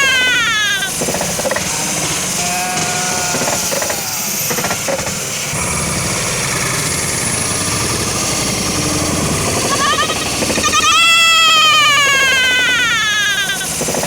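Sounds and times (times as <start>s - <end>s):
train wheels clattering on track: 0.0s - 11.0s, 13.4s - 14.0s.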